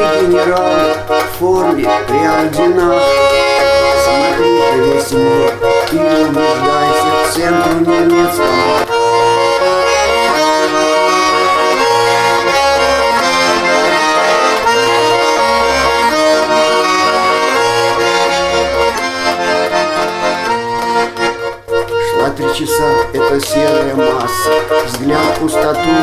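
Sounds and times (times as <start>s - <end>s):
accordion playing chords: 0.0s - 26.0s.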